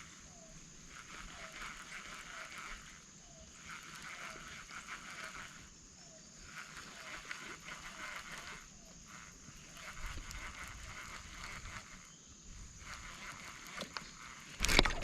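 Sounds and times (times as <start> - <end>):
buzzing insect chorus: 0.0 - 15.0
thin steady high whine: 0.0 - 15.0.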